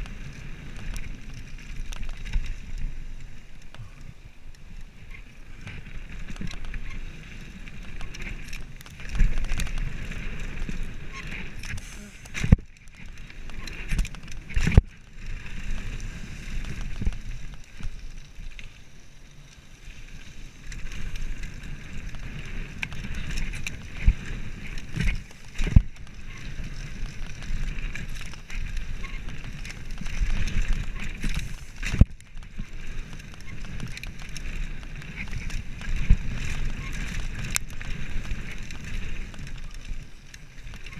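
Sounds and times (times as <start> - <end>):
bike tyres rumbling over dirt: 0.0 - 40.9.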